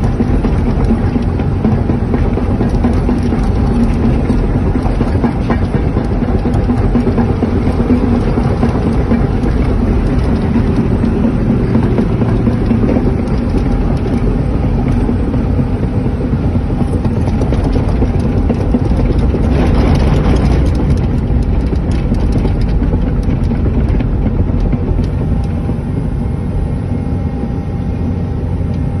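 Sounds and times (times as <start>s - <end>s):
diesel engine running under load: 0.0s - 29.0s
tracks clanking: 0.0s - 29.0s.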